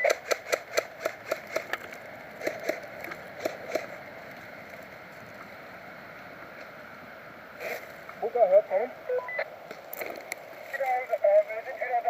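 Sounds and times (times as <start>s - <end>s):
faint hiss: 1.9s - 12.0s.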